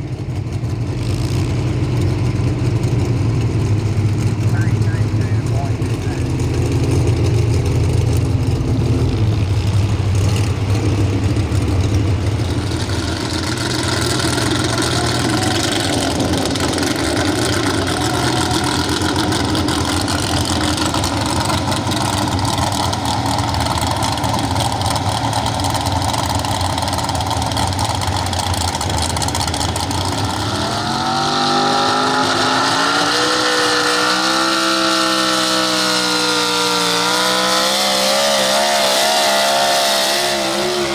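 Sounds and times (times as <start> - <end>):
truck engine rumbling and revving: 0.0 - 40.9.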